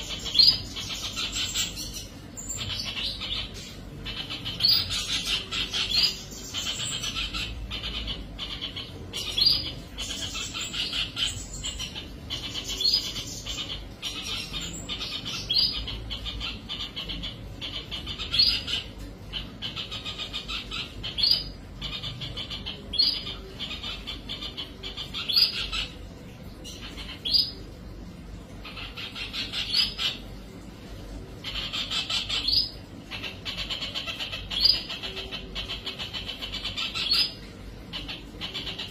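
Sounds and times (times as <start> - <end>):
bird chirping in rapid trills: 0.0 - 38.9.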